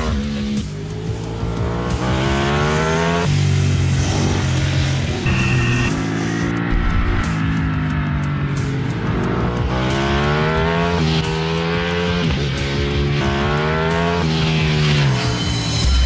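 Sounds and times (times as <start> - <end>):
racing engine accelerating: 0.0 - 15.8
music: 0.0 - 16.0.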